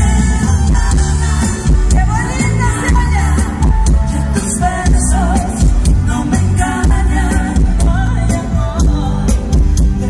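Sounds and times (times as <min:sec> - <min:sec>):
live band music with heavy bass: 0:00.0 - 0:10.0
woman singing: 0:00.0 - 0:10.0.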